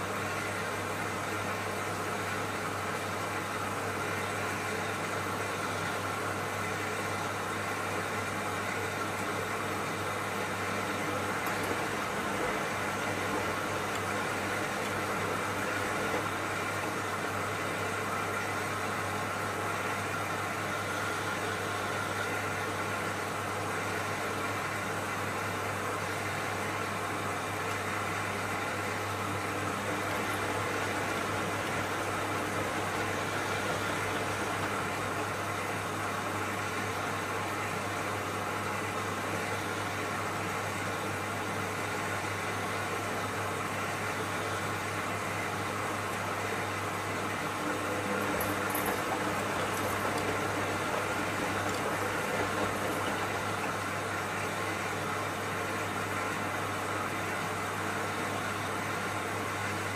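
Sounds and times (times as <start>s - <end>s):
washing machine hum and hiss: 0.0s - 59.9s.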